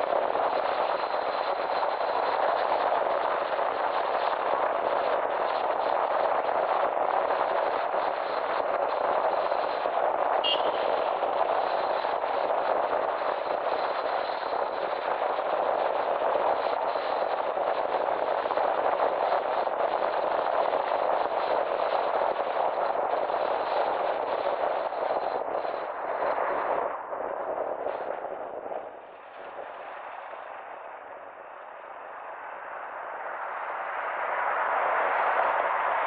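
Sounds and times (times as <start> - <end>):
car road and wind noise: 0.0 - 36.0.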